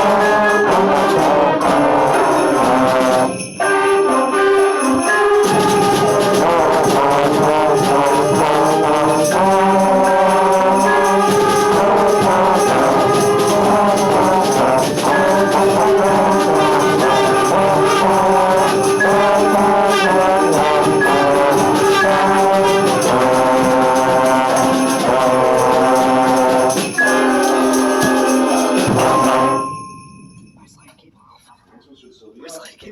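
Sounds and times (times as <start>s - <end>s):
trombone melody: 0.0s - 30.0s
orchestral backing track: 0.0s - 30.1s
sleigh bells ringing: 0.0s - 30.9s.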